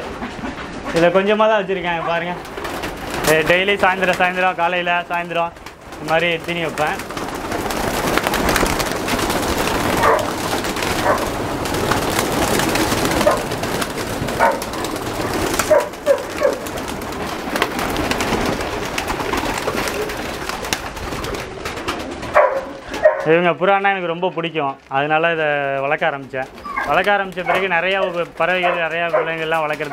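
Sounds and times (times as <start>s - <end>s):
pigeons cooing: 0.1s - 23.3s, 26.2s - 29.9s.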